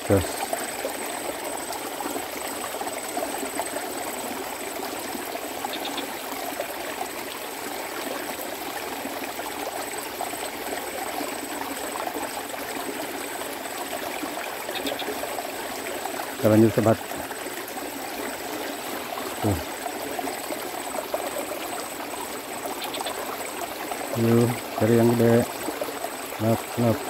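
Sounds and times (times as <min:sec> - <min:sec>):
water trickling in a ditch: 0:00.0 - 0:27.0.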